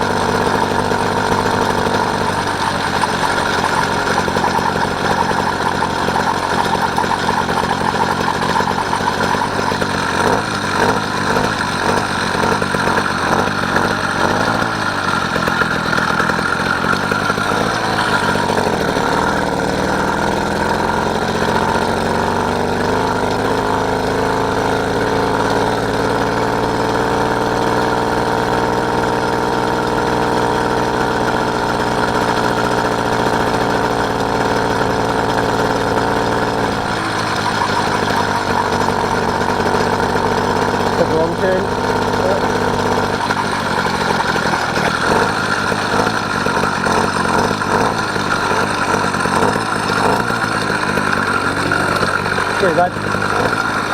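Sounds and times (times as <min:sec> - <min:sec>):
motorised bike engine running: 0:00.0 - 0:53.9.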